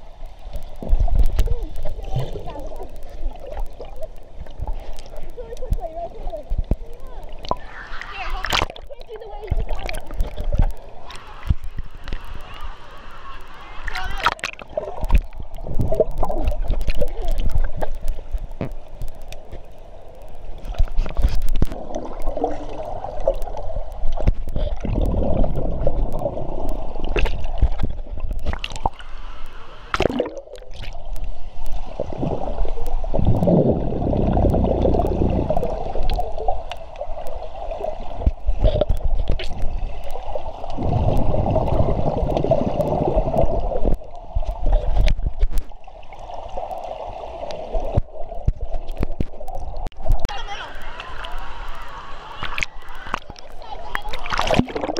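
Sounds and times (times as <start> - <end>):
muffled water gurgling and sloshing: 0.0 - 54.9
clicks and knocks from bubbles: 0.5 - 7.7, 8.3 - 12.3, 13.9 - 29.0, 29.9 - 45.8, 47.7 - 50.3, 52.4 - 54.9.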